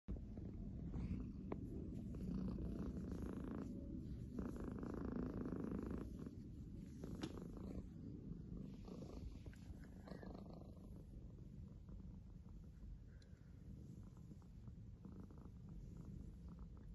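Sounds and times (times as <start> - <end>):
cat purring: 0.1 - 16.9.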